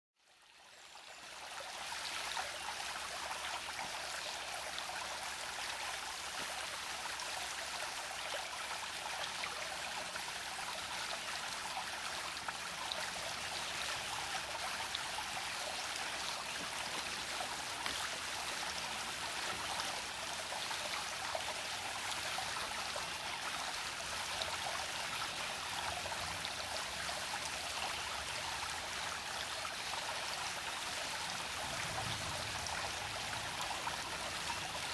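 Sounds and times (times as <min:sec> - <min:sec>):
brook babbling: 0:00.2 - 0:34.9.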